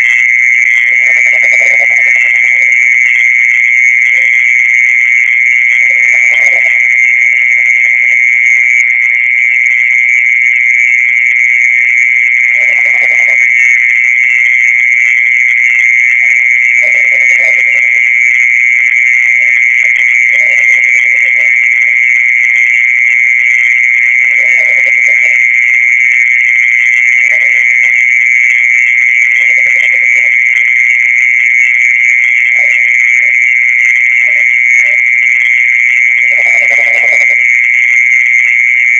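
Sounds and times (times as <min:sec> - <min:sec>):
mole cricket high-pitched trill: 0:00.0 - 0:38.9
shorter lower insect calls: 0:00.0 - 0:38.9.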